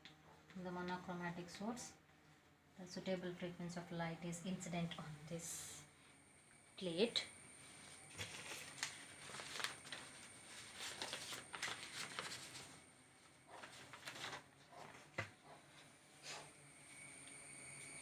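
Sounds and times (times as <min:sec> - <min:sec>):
faint high-pitched whine: 0:00.1 - 0:14.4, 0:15.7 - 0:18.0.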